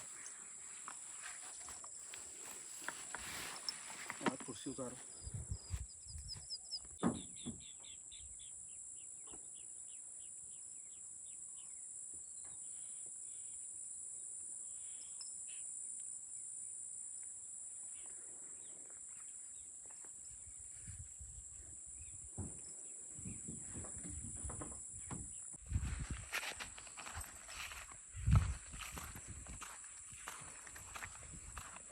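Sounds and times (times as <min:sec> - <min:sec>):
insects droning: 0:00.0 - 0:31.9.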